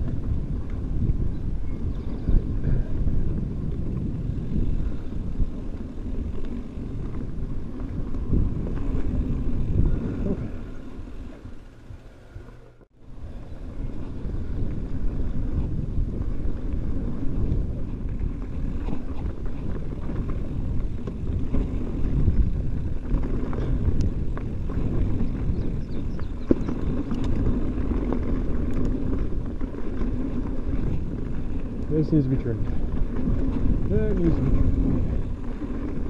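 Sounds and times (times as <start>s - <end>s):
bike tyres on dirt trail: 0.0s - 36.0s
wind rumbling on microphone: 0.0s - 36.0s.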